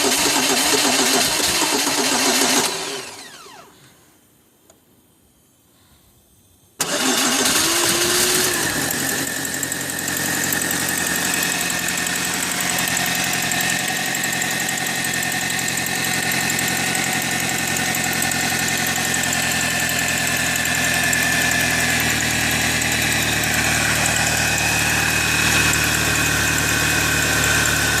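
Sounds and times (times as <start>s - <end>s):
car engine starting and idling: 0.0s - 3.7s, 6.8s - 28.0s.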